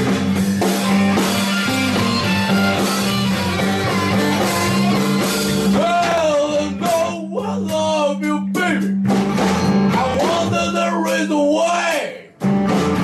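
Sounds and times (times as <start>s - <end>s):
slide guitar: 0.0s - 8.2s, 8.8s - 11.3s
electric blues band playing: 0.0s - 13.0s.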